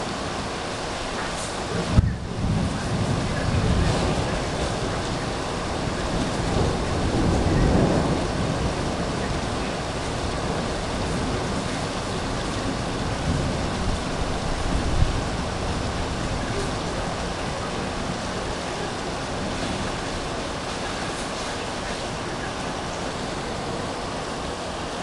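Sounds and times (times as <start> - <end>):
heavy rain pouring: 0.0 - 25.0
low rumble of thunder: 0.0 - 25.0.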